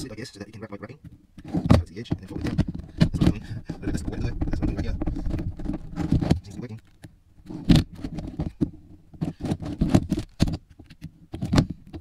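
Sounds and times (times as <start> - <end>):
thumps and knocks: 1.0 - 12.0.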